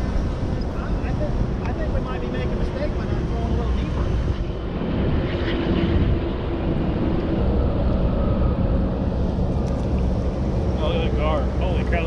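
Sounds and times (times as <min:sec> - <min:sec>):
motorboat engine drone: 0:00.0 - 0:12.0.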